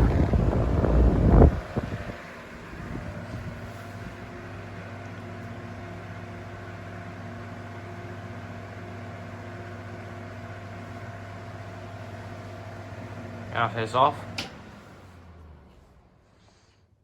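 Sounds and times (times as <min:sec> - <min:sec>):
ceiling fans humming: 0:00.0 - 0:16.7.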